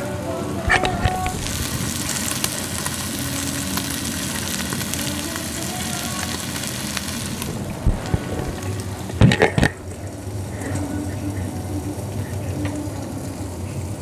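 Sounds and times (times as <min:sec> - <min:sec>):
meat sizzling on grill: 0:00.0 - 0:14.0.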